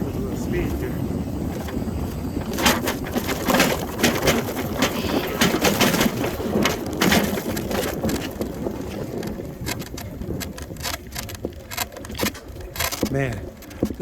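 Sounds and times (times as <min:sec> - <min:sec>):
bicycle tyres crunching: 0:00.0 - 0:14.0
rumble on microphone: 0:00.0 - 0:14.0
bicycle frame clattering: 0:01.5 - 0:14.0.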